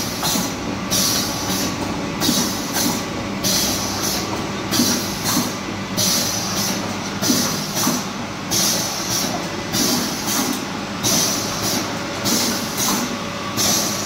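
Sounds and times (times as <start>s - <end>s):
machine clatter: 0.0s - 14.0s.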